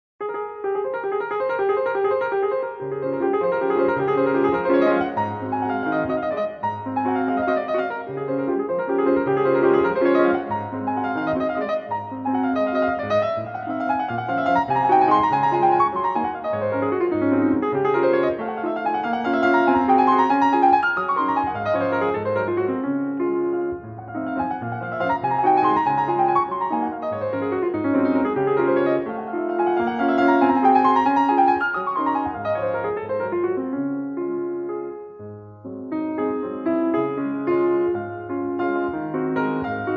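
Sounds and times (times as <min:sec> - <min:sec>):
piano music: 0:00.2 - 0:39.9.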